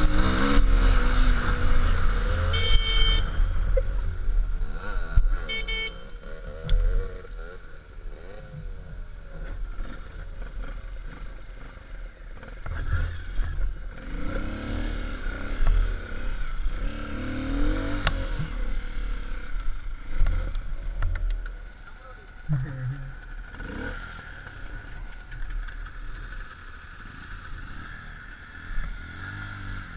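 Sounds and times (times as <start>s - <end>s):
vehicle engine and tyres rumbling: 0.0s - 29.9s.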